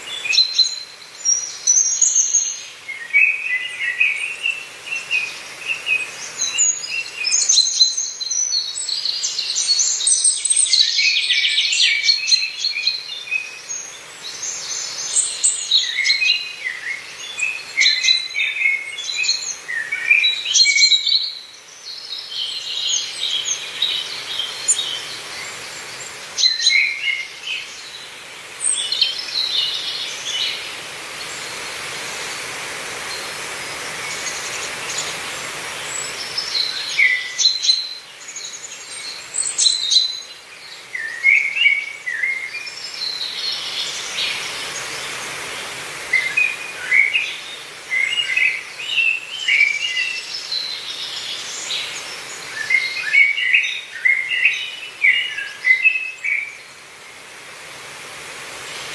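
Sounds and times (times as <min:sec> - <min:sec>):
songbirds singing and chirping: 0:00.0 - 0:58.9
steady soft hiss: 0:00.1 - 0:58.9.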